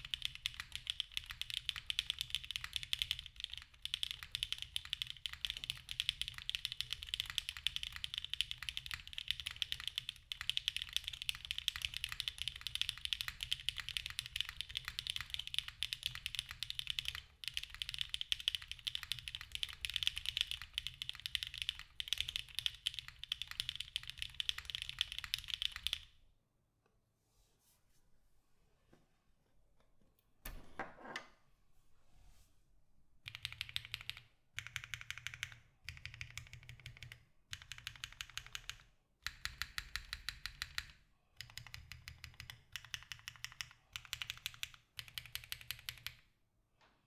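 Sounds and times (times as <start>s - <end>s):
mechanical keyboard typing: 0.0s - 26.1s, 33.3s - 46.3s.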